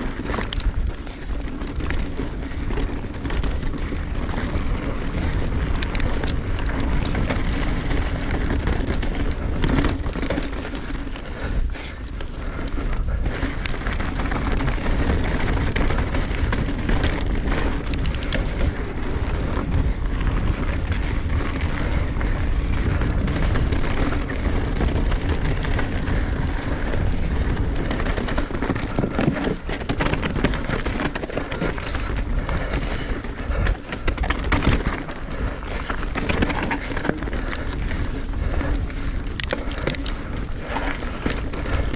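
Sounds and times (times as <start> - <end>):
bike clicks and rattles: 0.0 - 41.9
tyres on dirt and rock: 0.0 - 41.9
wind rumble on microphone: 0.0 - 41.9.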